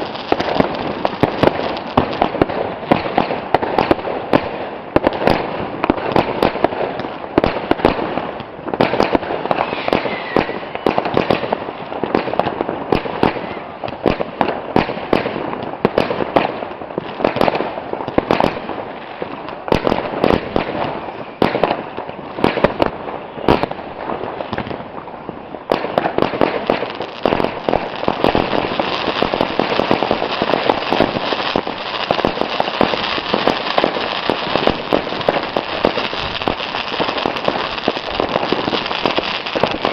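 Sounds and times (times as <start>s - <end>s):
fireworks bangs and pops: 0.0s - 39.9s
fireworks crackle: 0.0s - 39.9s.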